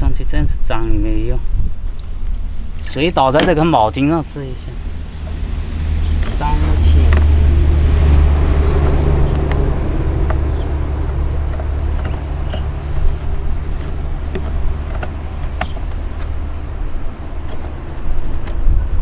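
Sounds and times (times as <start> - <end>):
insects chirping: 0.0 - 19.0
light clicks and knocks: 1.9 - 19.0
low rumble: 3.7 - 19.0.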